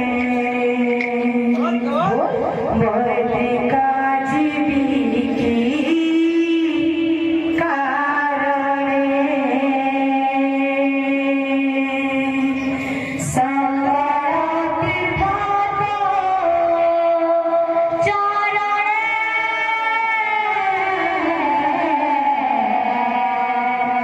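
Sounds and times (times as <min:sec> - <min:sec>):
women singing devotional music: 0:00.0 - 0:01.6, 0:02.2 - 0:24.0.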